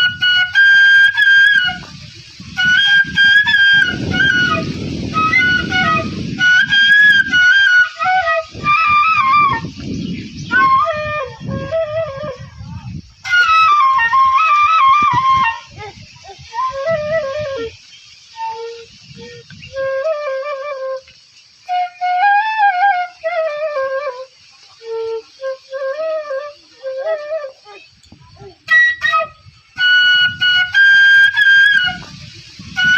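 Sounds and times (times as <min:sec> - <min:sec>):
bamboo flute melody: 0:00.0 - 0:32.9
low noisy accompaniment: 0:00.0 - 0:32.9.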